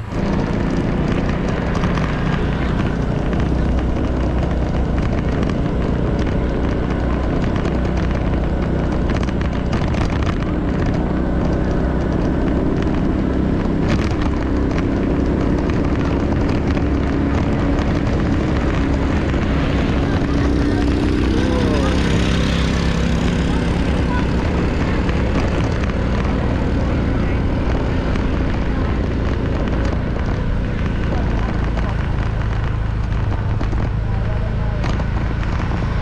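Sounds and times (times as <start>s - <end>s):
road and wind noise: 0.0s - 36.0s
vehicle engine running: 0.0s - 36.0s.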